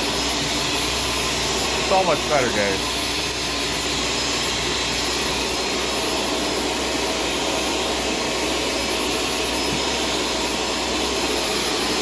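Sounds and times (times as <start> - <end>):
vacuum cleaner motor whirring: 0.0 - 12.0.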